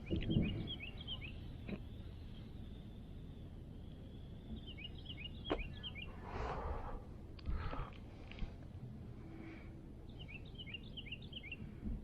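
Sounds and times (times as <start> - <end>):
low outdoor background: 0.0 - 12.0
songbird chirping: 0.0 - 12.0.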